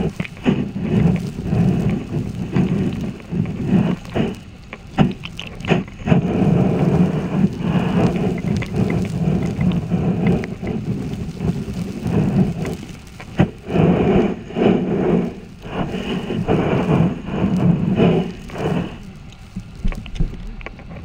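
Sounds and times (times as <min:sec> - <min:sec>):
fish tails beating: 0:00.0 - 0:21.0
underwater river rush: 0:00.0 - 0:21.0.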